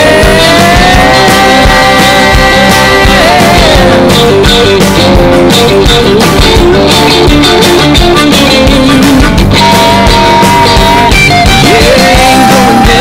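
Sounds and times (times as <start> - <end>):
loud rock music with guitar: 0.0 - 13.0.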